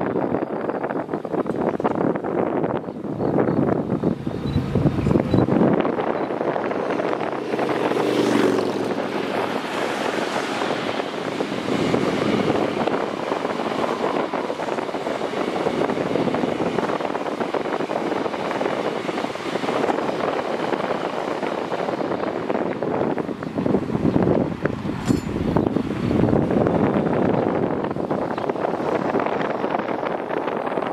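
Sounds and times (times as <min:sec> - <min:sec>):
electric locomotives passing: 0:00.0 - 0:30.9
train wheels on rail: 0:00.0 - 0:30.9.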